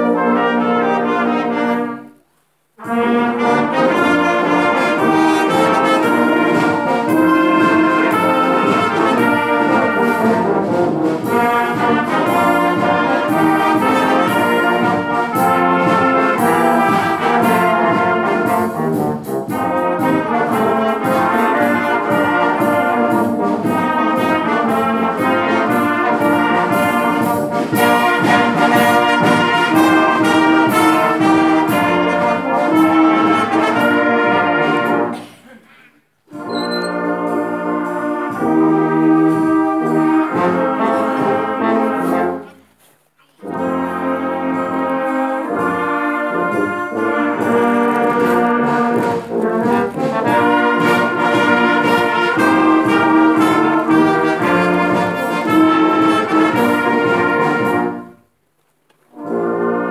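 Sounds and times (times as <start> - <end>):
brass band playing a hymn: 0.0 - 58.4, 59.1 - 59.9.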